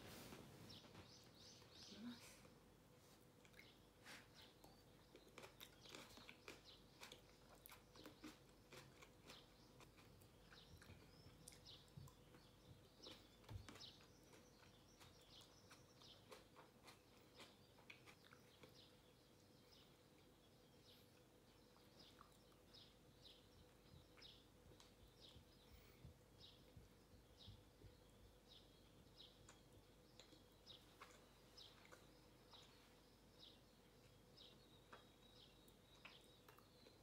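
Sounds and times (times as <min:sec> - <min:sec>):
faint bird chirps: 0:00.6 - 0:02.6, 0:03.5 - 0:37.0
chewing and crunching nuts: 0:03.2 - 0:25.8, 0:27.5 - 0:37.0.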